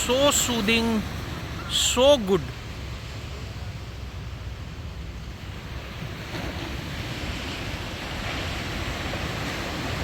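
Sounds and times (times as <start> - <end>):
sea waves breaking on beach: 0.0 - 10.0.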